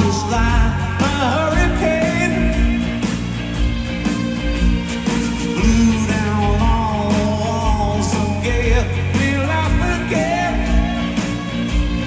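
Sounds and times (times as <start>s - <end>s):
person singing: 0.0s - 3.4s, 5.4s - 12.0s
live rock band: 0.0s - 12.0s.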